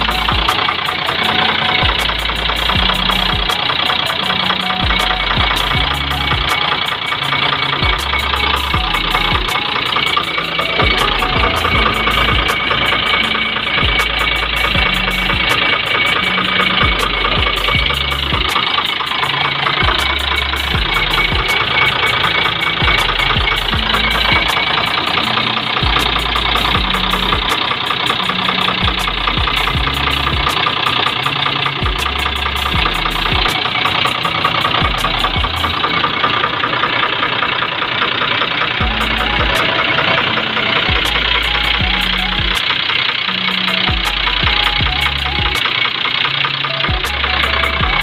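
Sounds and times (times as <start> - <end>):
diesel engine idling: 0.0 - 48.0
fast even ticking: 0.0 - 48.0.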